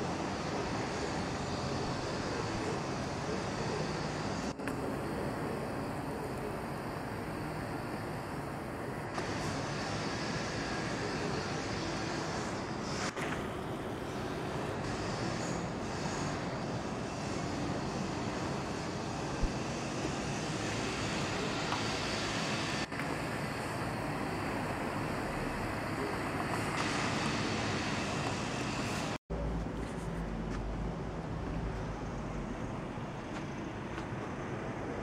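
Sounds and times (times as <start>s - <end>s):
rushing outdoor background noise: 0.0s - 35.0s.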